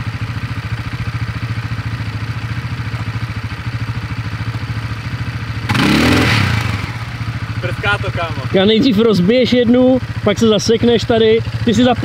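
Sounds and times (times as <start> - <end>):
quad bike engine idling and revving: 0.0 - 12.0.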